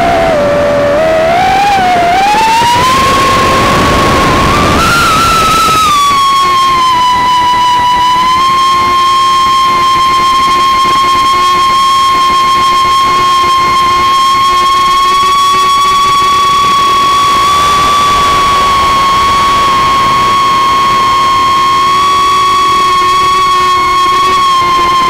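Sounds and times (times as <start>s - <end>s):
electric motor and propeller whine: 0.0s - 25.0s.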